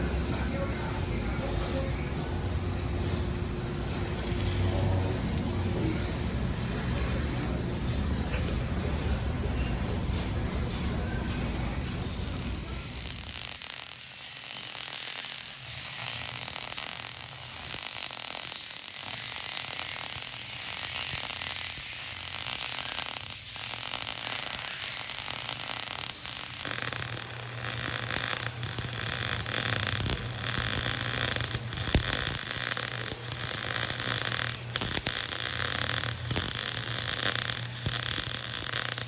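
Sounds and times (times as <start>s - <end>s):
workshop machinery hissing: 0.0s - 39.0s.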